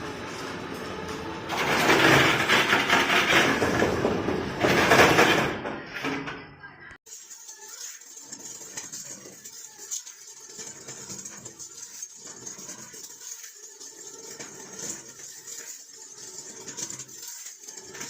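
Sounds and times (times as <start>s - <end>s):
concrete mixer rattling: 0.0s - 5.8s, 7.1s - 18.0s.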